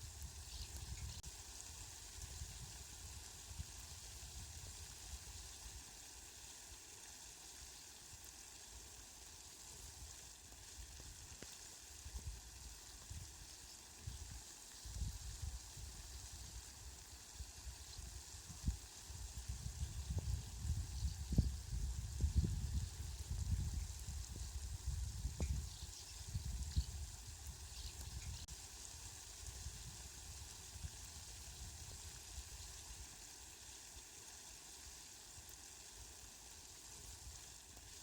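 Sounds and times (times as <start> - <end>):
steady rain hiss: 0.0 - 38.0.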